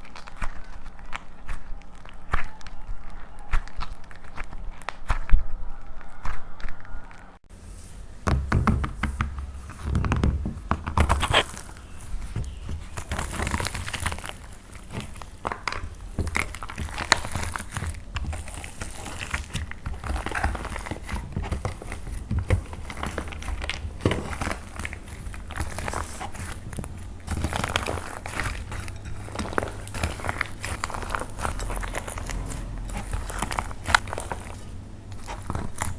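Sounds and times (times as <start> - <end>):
dried clay crackling and crunching: 0.0 - 35.9.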